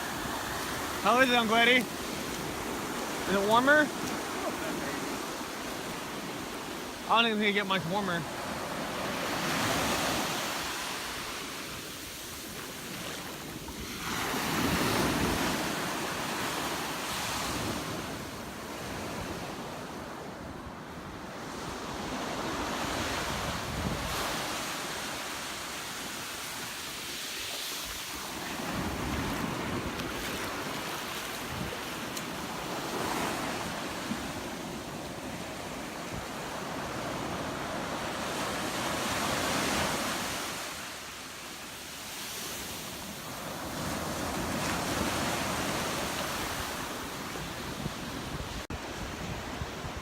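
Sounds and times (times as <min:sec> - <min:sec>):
surf breaking on a beach: 0:00.0 - 0:50.0.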